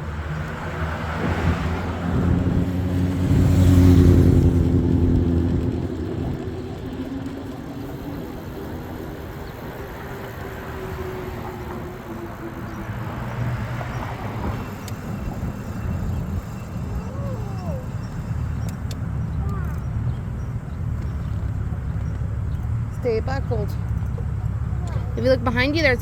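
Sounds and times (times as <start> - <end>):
road traffic noise: 0.0 - 26.0
vehicle engine humming: 0.0 - 26.0.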